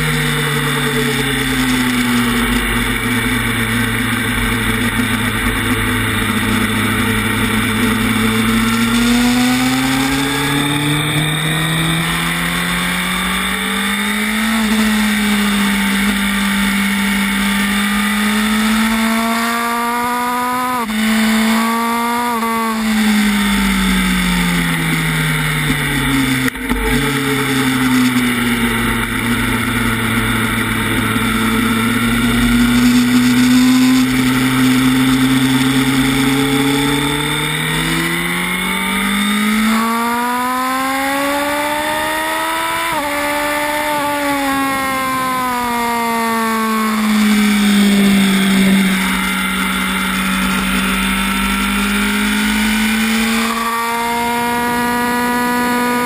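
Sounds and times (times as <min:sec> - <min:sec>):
sport bike engine revving: 0:00.0 - 0:56.0.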